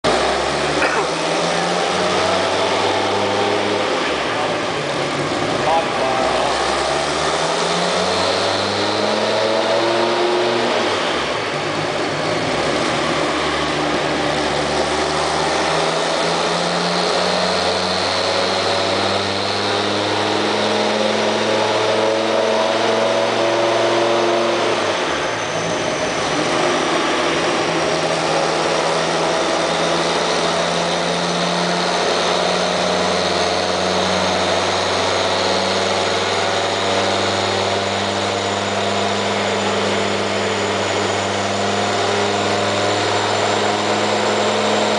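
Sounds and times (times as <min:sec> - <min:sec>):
car engine on dyno: 0:00.0 - 0:44.9.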